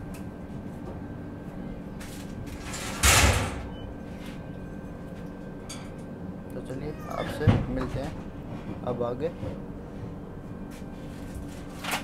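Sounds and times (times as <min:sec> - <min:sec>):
train coach hum and rumble: 0:00.0 - 0:06.7, 0:07.4 - 0:12.0.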